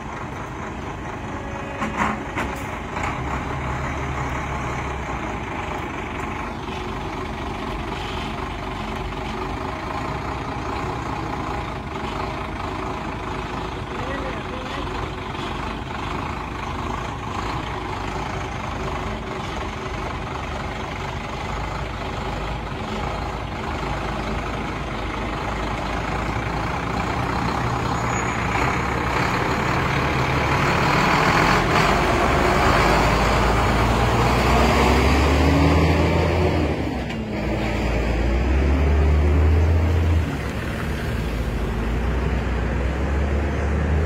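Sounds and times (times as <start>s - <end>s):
truck engine rumbling: 0.0s - 44.0s.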